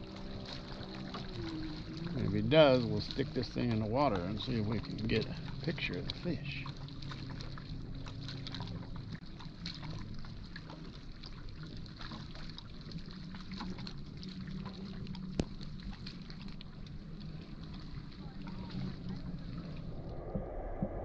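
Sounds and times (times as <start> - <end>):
steady low hum: 0.0 - 21.0
water lapping against a boat: 0.0 - 21.0.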